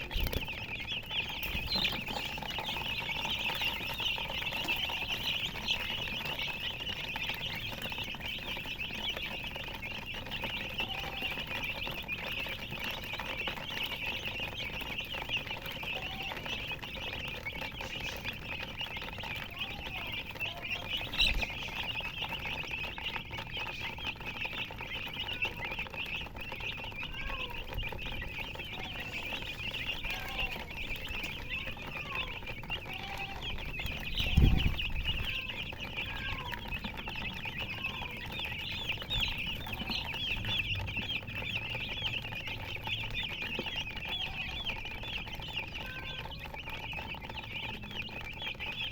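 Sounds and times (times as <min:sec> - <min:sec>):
baby chicks peeping: 0:00.0 - 0:48.9
hen clucking: 0:00.0 - 0:48.9.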